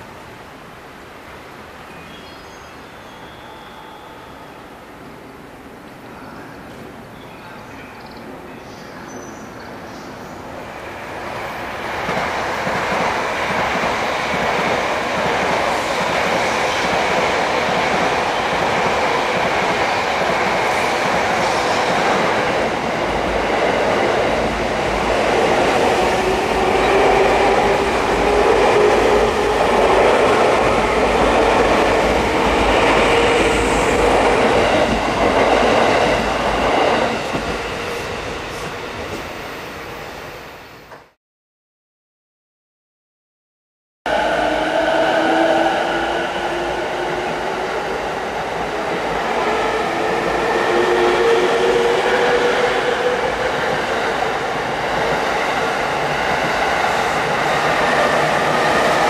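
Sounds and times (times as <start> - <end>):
electric train passing on rails: 0.0 - 41.2, 44.1 - 59.0
steady train hum: 3.2 - 41.1, 44.1 - 59.0.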